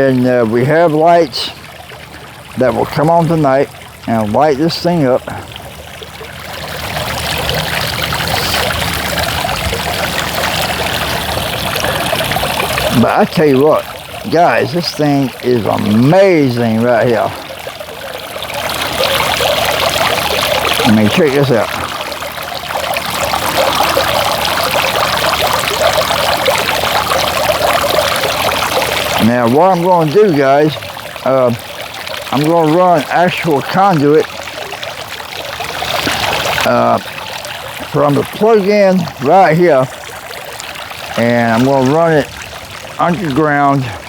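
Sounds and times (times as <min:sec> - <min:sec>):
fountain water splashing: 0:00.0 - 0:44.0.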